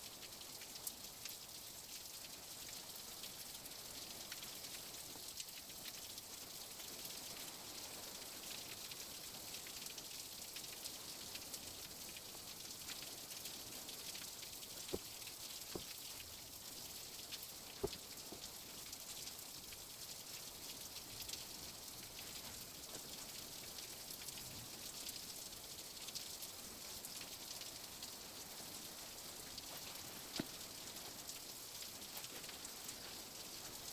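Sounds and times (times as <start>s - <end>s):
steady hiss: 0.0s - 33.9s.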